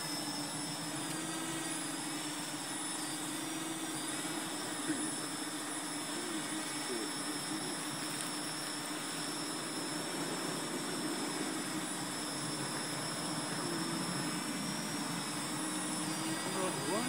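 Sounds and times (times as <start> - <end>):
drone propeller buzz: 0.0 - 17.0.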